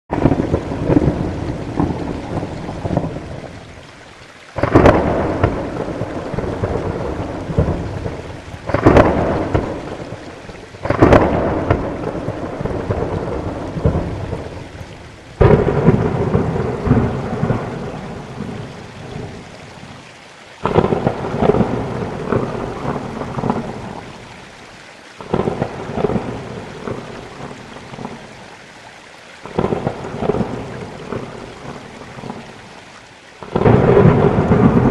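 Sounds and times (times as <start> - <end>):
thunderclaps rumbling: 0.1 - 3.7, 4.6 - 20.0, 20.6 - 24.4, 25.2 - 28.2, 29.4 - 32.4, 33.4 - 34.9
steady rain: 0.1 - 34.9.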